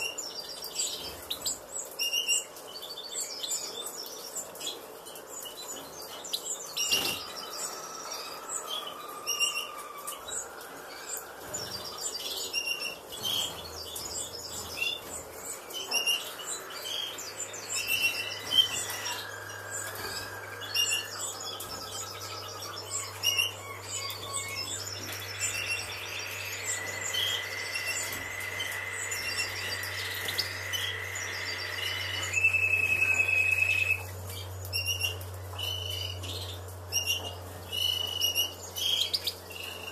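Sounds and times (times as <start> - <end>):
finches chirping and twittering: 0.0 - 39.9
steady low hum: 4.4 - 39.9.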